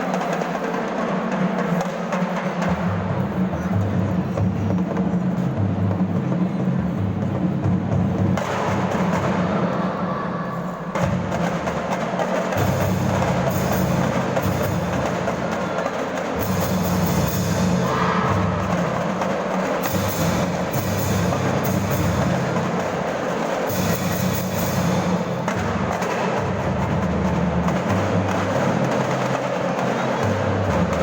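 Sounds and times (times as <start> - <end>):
snare drums: 0.0 - 10.0, 10.8 - 31.0.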